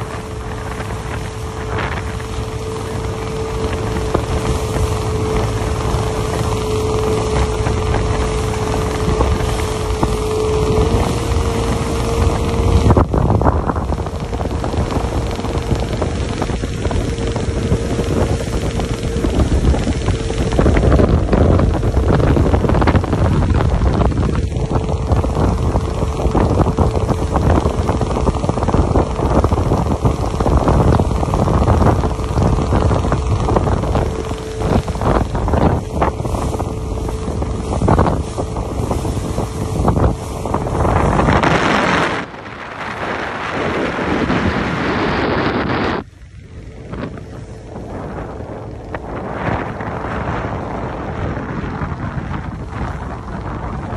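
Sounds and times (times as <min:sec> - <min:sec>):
motorboat running at speed: 0:00.0 - 0:53.9
rushing water and wake: 0:00.0 - 0:53.9
steady hum: 0:00.0 - 0:53.9
wind buffeting microphone: 0:00.0 - 0:53.9.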